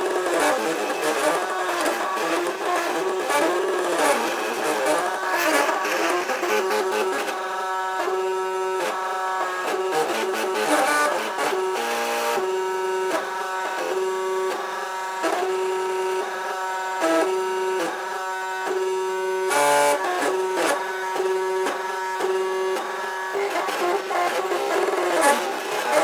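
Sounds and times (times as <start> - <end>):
printer stepper motors whining: 0.0 - 26.0.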